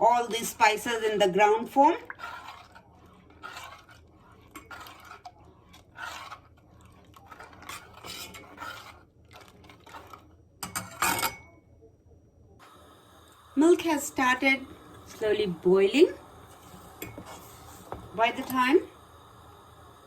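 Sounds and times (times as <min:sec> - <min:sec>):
metal spoon scraping saucepan: 0:00.3 - 0:11.4, 0:13.6 - 0:19.0.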